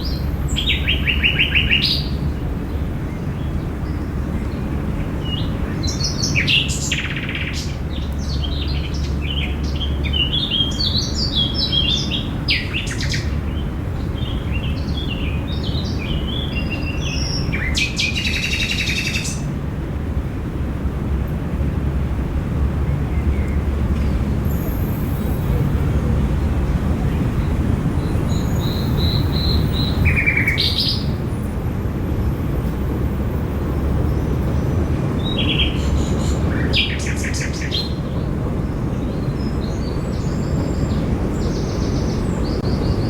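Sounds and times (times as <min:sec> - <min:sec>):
small birds chirping: 0:00.0 - 0:19.5, 0:22.8 - 0:43.0.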